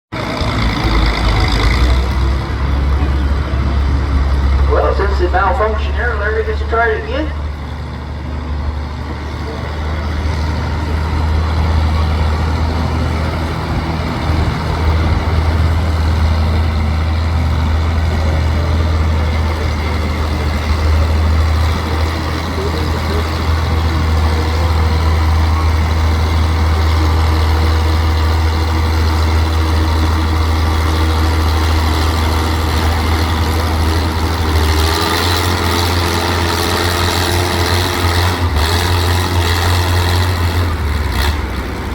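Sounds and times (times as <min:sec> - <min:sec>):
tractor engine running under load: 0:00.1 - 0:41.9.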